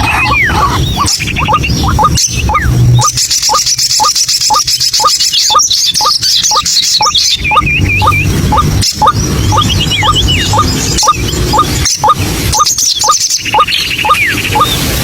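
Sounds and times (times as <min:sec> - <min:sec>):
high rapid chattering: 0:00.0 - 0:15.0
waterhen calling: 0:00.0 - 0:15.0.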